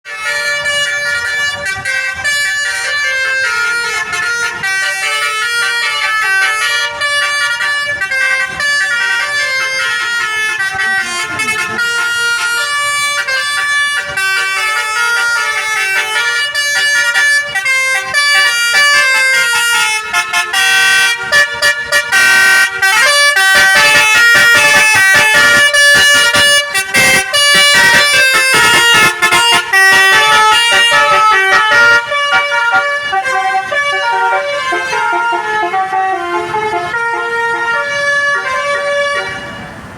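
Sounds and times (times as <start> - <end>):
musical air horn playing a tune: 0.1 - 39.6.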